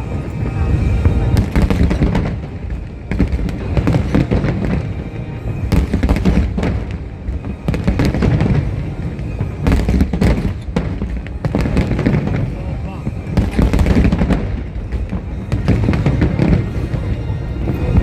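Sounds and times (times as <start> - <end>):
fireworks bangs and crackles: 0.0 - 18.0
music playing: 0.0 - 18.0.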